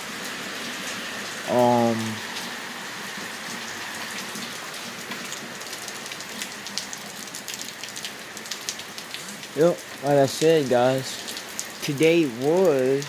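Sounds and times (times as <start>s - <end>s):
hard rain hissing: 0.0s - 13.0s
raindrops ticking close by: 0.0s - 13.0s.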